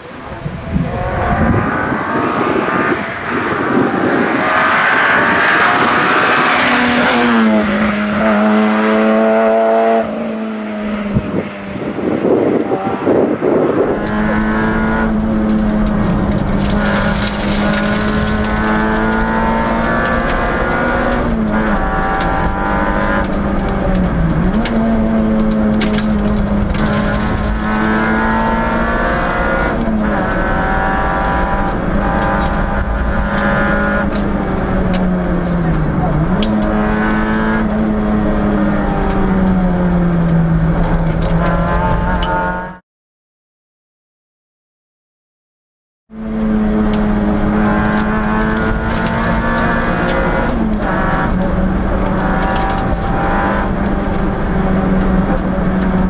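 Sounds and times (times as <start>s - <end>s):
rally car engine at high revs: 0.0s - 42.8s, 46.1s - 56.0s.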